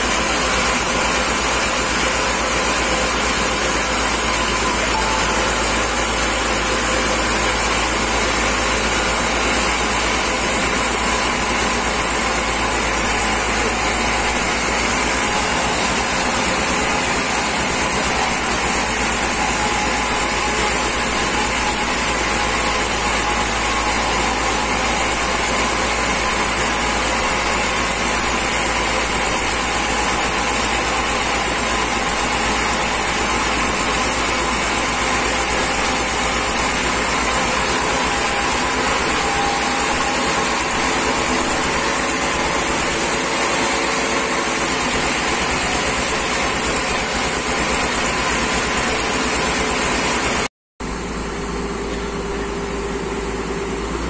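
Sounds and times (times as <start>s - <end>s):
band saw cutting a log: 0.0s - 54.0s.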